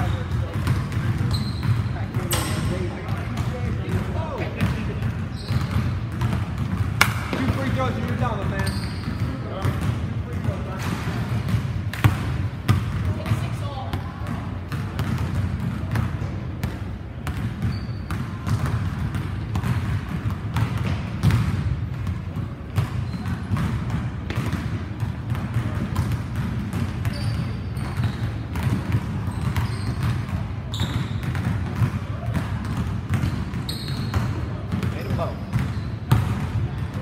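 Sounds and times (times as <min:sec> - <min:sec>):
basketball bouncing on wooden floor: 0:00.0 - 0:37.0.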